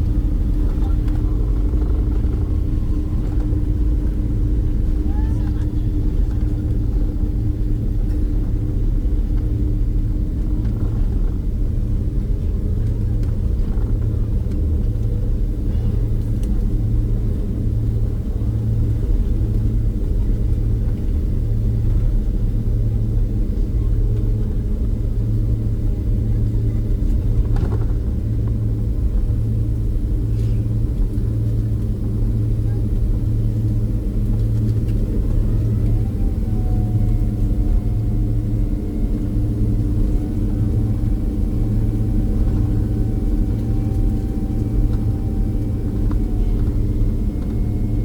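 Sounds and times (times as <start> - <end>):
aircraft engines rumbling in cabin: 0.0 - 48.0.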